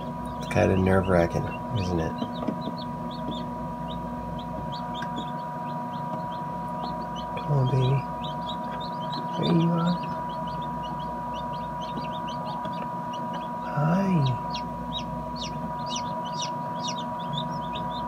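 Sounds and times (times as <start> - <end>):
chicks peeping: 0.0 - 18.0
steady hum: 0.0 - 18.0.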